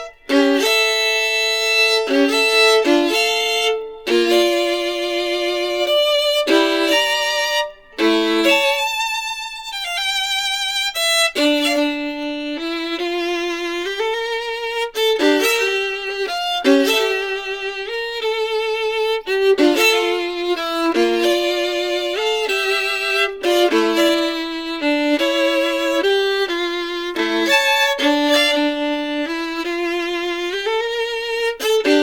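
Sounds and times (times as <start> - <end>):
violin melody with vibrato: 0.0 - 32.0.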